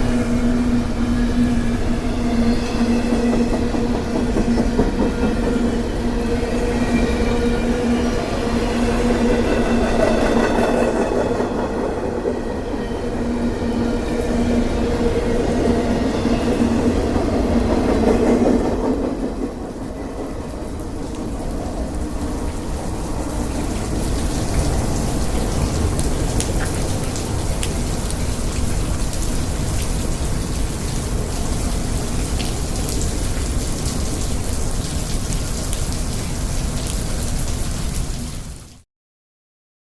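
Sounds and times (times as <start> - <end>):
freight train rolling past: 0.0 - 38.2
steady rain falling: 0.0 - 38.8.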